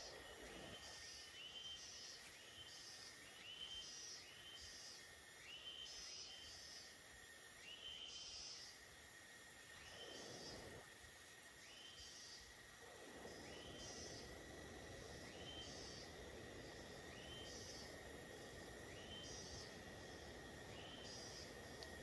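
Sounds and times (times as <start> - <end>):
soft even hiss: 0.0 - 22.0.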